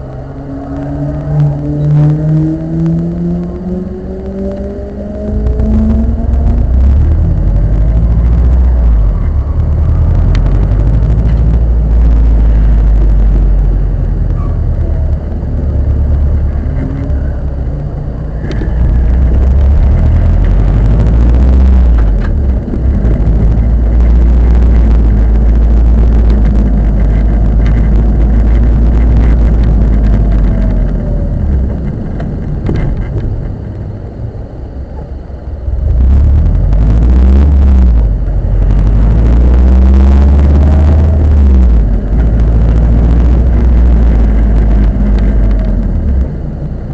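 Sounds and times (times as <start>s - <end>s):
car engine rumbling: 0.0s - 46.9s.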